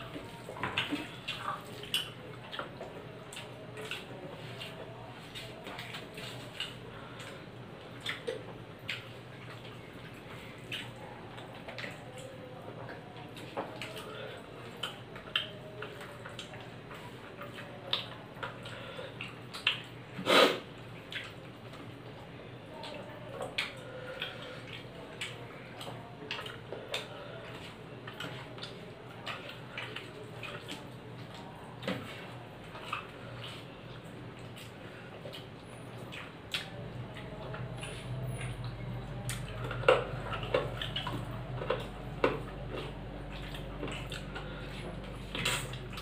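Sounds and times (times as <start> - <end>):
chewing: 0.0 - 46.0
hands mixing food on plates: 0.0 - 46.0.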